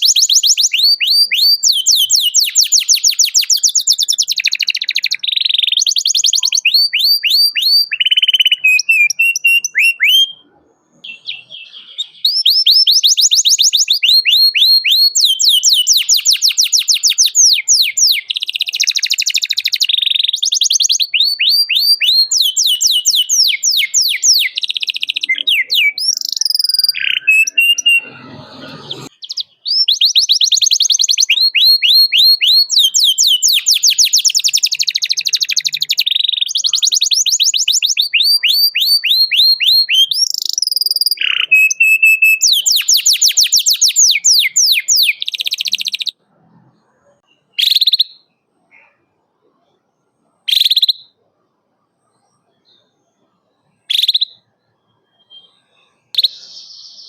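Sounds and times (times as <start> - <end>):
canary singing: 0.0 - 46.2, 53.8 - 57.0.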